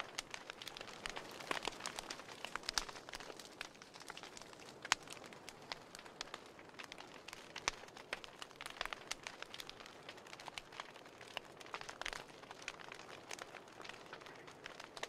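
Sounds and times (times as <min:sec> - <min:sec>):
burning paper crackling: 0:00.0 - 0:15.0.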